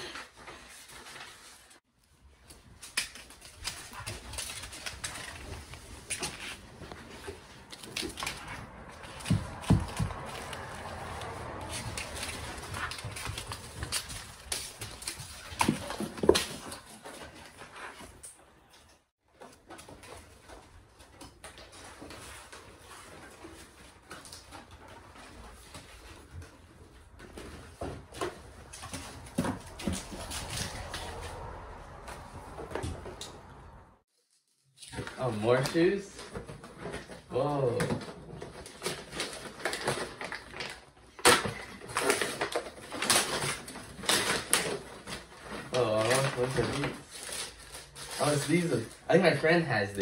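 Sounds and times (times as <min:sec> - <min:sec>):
paper rustling: 0:00.0 - 0:50.0.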